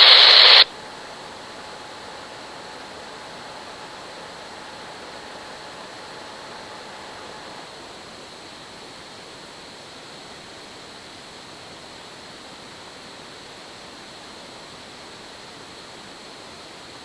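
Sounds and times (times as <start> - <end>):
police scanner static hiss: 0.0 - 17.0.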